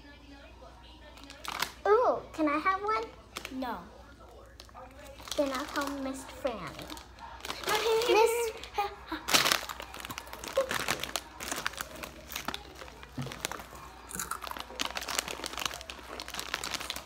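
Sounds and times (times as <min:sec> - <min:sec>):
snack bag crinkling: 0:01.0 - 0:01.9, 0:03.0 - 0:17.0.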